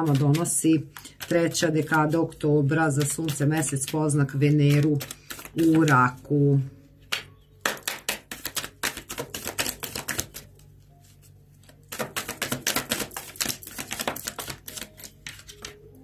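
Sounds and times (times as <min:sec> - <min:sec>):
cards being shuffled: 0:00.0 - 0:06.3, 0:07.0 - 0:15.8.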